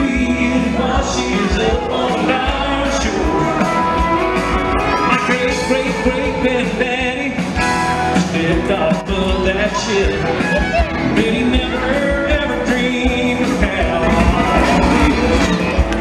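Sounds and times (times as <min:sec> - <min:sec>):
electric guitar: 0:00.0 - 0:16.0
person singing: 0:00.0 - 0:16.0
steady beat: 0:00.0 - 0:16.0.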